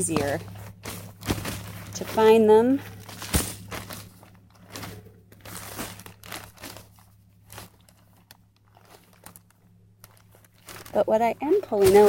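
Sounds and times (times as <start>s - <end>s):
soil and dry stalks crunching: 0.0s - 12.0s.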